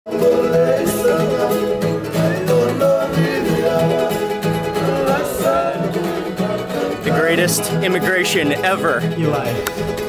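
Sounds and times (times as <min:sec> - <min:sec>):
men singing together: 0:00.1 - 0:08.9
acoustic guitars strummed: 0:00.1 - 0:10.0.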